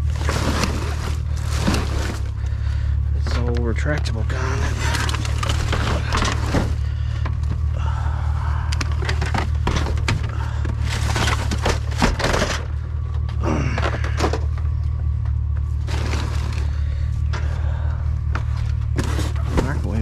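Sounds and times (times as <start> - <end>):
junk scraping and clattering: 0.0 - 7.9, 8.5 - 20.0
low steady hum: 0.0 - 20.0.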